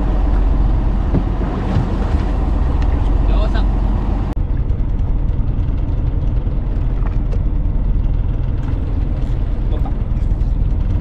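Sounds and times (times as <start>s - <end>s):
engine running low rumble: 0.0s - 11.0s.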